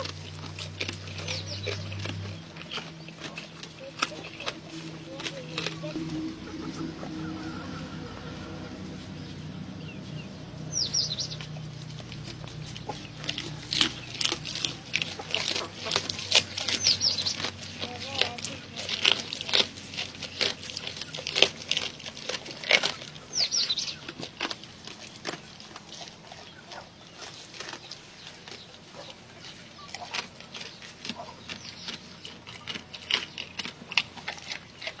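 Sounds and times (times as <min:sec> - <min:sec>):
goat chewing wet crunching: 0:00.0 - 0:35.0.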